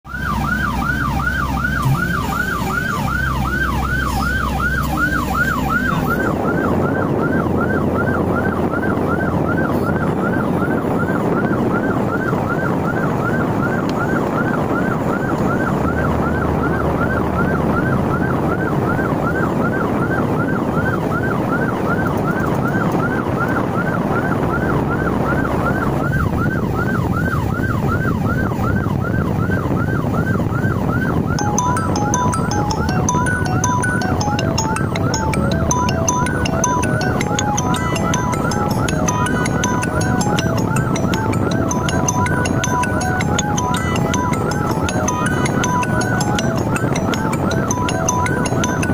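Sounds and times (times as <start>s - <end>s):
emergency siren yelping: 0.0s - 48.9s
lower siren yelping: 0.0s - 48.9s.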